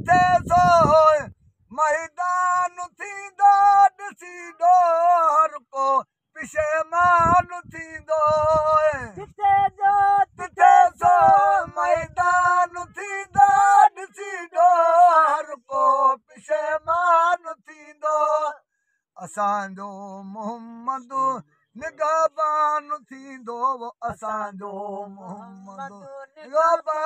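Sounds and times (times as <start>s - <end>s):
man singing unaccompanied: 0.0s - 18.6s, 19.2s - 27.0s.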